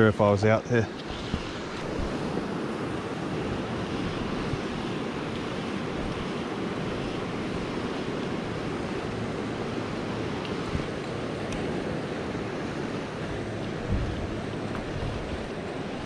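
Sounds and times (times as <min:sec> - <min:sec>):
river rushing over rocks: 0:00.2 - 0:16.0.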